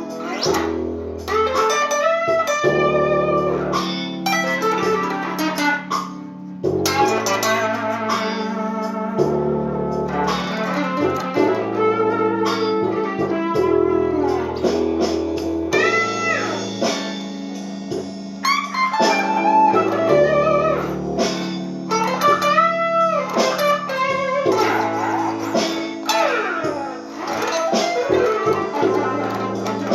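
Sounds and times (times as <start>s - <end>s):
blues guitar music: 0.0s - 29.9s
held bass line: 0.0s - 29.9s
lead guitar bending notes: 0.0s - 29.9s.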